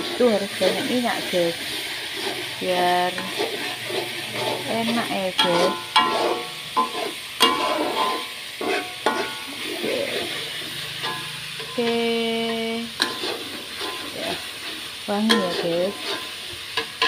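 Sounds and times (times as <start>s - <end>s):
metal spatula scraping a wok: 0.0s - 17.0s
sauce sizzling in oil: 0.0s - 17.0s.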